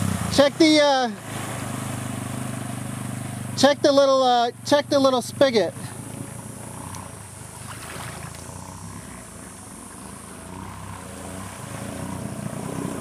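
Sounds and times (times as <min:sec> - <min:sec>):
quad bike engine running at low revs: 0:00.0 - 0:13.0.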